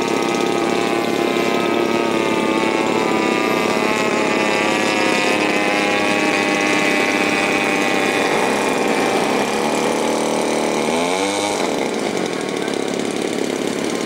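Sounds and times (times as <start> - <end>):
model airplane engine droning: 0.0 - 14.0.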